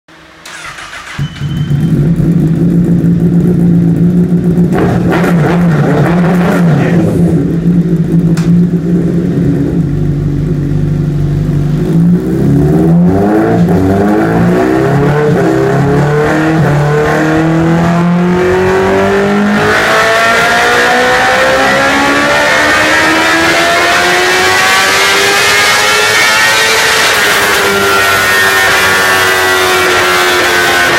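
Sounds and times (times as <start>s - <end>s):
motorcycle engine revving on a dyno: 0.1s - 30.9s.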